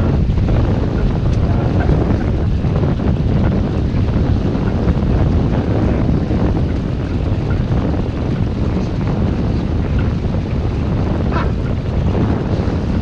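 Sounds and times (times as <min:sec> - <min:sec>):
water rushing past hull: 0:00.0 - 0:13.0
wind buffeting microphone: 0:00.0 - 0:13.0.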